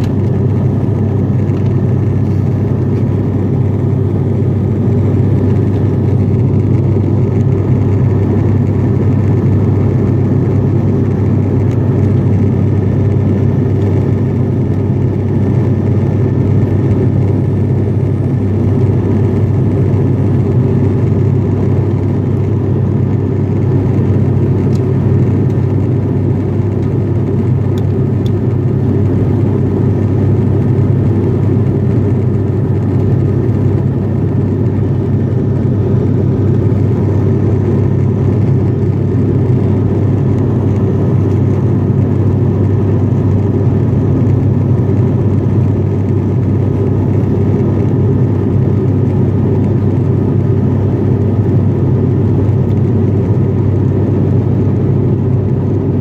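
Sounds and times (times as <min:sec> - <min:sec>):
turboprop engines droning in cabin: 0:00.0 - 0:56.0.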